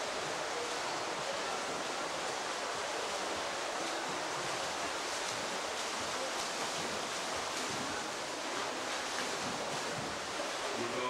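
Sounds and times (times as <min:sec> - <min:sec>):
swimmer splashing water: 0:00.0 - 0:11.0.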